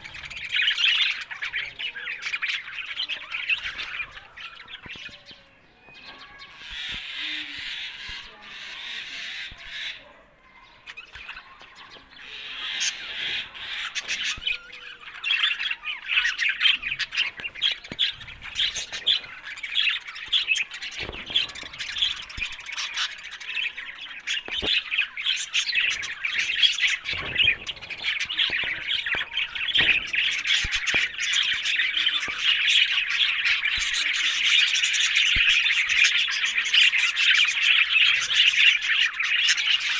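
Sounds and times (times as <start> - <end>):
budgerigars chattering: 0.0 - 10.1, 10.7 - 39.9.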